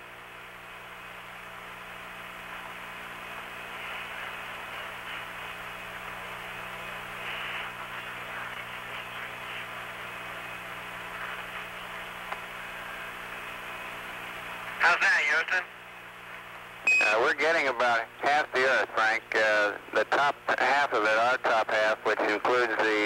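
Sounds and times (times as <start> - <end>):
low electrical hum: 0.0 - 23.0
radio static hiss: 1.4 - 23.0.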